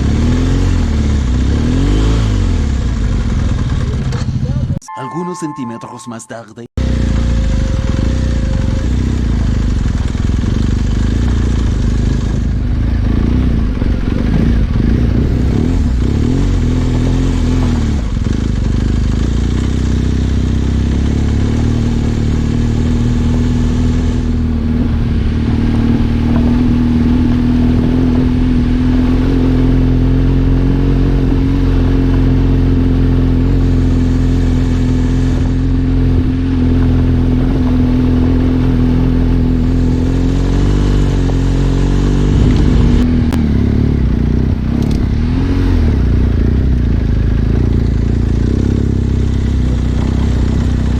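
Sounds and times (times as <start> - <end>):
motorcycle engine running: 0.0 - 4.8, 6.8 - 50.9.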